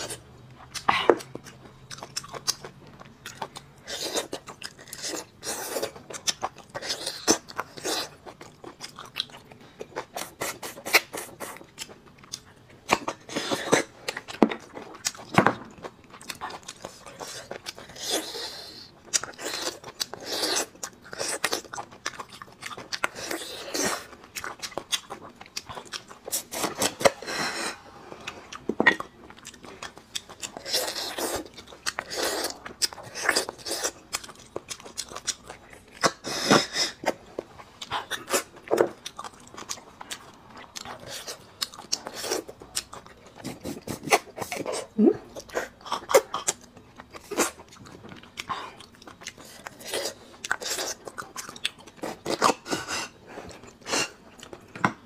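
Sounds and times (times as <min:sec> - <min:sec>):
mouth chewing bone marrow: 0:00.0 - 0:55.0.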